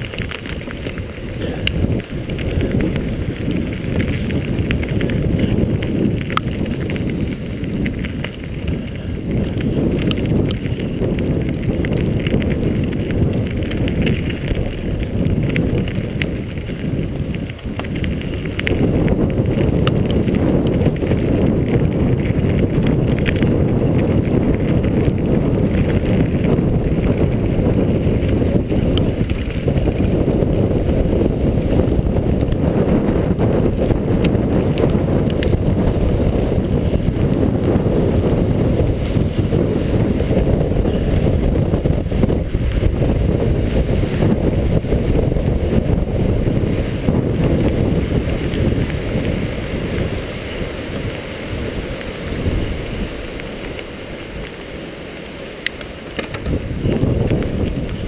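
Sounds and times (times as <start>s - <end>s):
bike clicks and rattles: 0.0s - 52.1s, 55.6s - 58.0s
tyres rumbling on dirt: 0.0s - 58.0s
wind buffeting microphone: 0.0s - 58.0s.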